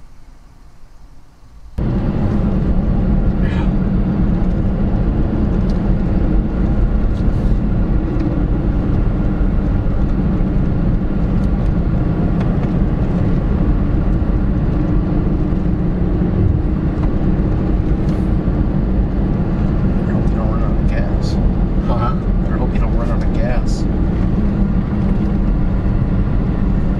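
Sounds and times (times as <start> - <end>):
car engine hum: 0.0 - 26.9
road noise: 0.0 - 26.9.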